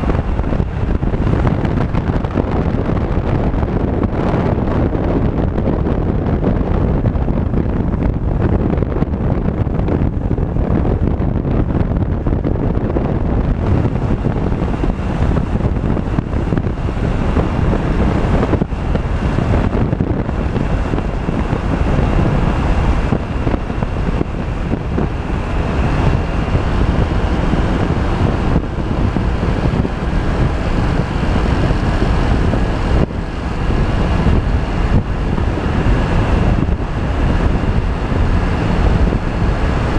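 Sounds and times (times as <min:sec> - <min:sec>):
road and engine noise: 0:00.0 - 0:39.9
wind buffeting microphone: 0:00.0 - 0:39.9.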